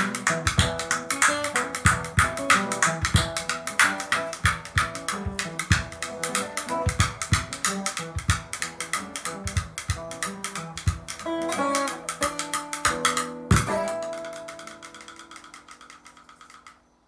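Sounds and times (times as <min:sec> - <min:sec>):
drum beat: 0:00.0 - 0:14.3
plucked guitar: 0:00.0 - 0:16.8.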